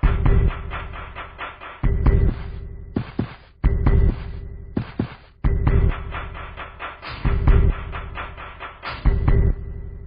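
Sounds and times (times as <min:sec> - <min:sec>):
fast beat music with heavy drums: 0:00.0 - 0:10.0.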